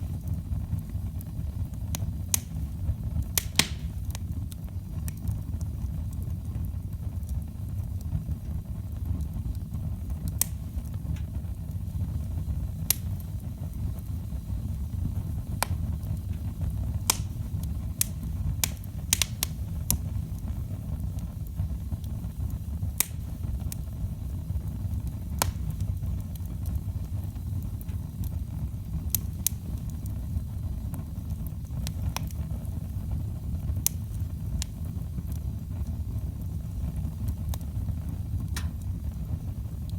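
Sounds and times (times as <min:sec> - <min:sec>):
fire low rumble: 0:00.0 - 0:39.9
firewood crackling and popping: 0:00.0 - 0:39.9.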